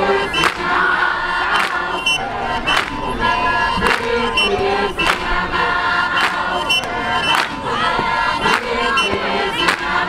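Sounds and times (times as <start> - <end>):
crowd noise: 0.0 - 10.0
men chanting and singing: 0.0 - 10.0.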